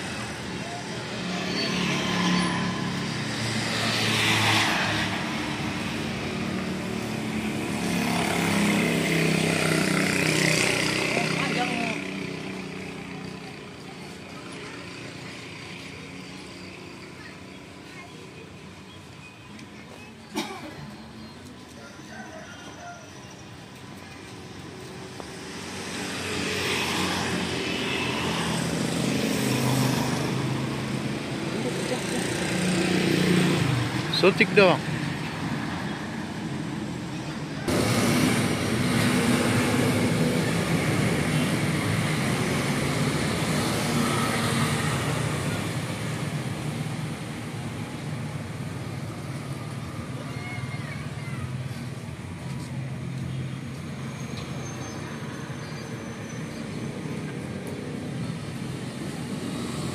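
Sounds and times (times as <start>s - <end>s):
motorbike passing: 0.0s - 18.5s, 20.8s - 59.9s
road traffic passing: 0.0s - 59.9s.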